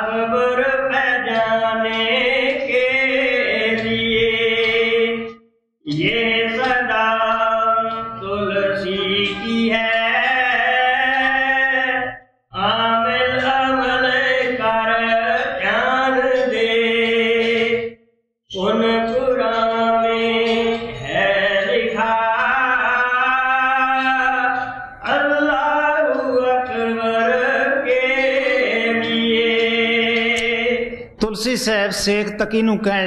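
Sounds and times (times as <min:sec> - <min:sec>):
person chanting a hymn: 0:05.9 - 0:17.9, 0:18.5 - 0:33.0.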